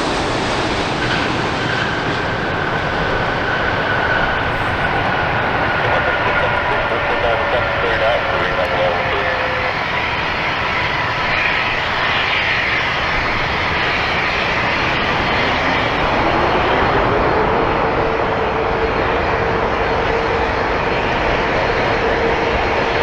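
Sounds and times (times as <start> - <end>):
steady engine whine: 0.0 - 21.9
jet engines roaring: 0.0 - 22.9.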